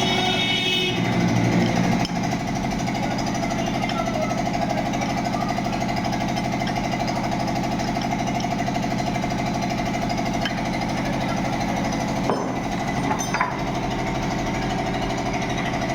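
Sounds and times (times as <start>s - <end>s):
water pump motor rattling buzz: 0.0s - 15.9s.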